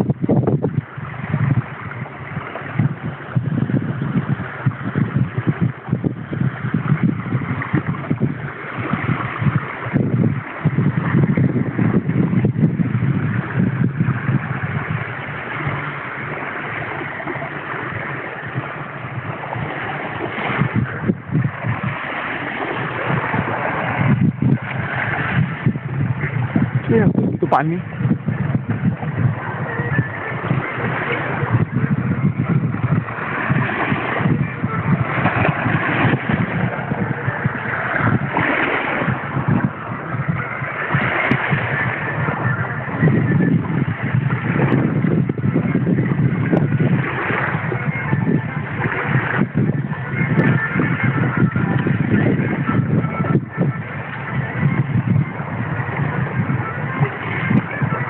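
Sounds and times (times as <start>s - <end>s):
small waves on shore: 0.0s - 58.0s
wind blowing across microphone: 0.0s - 58.0s.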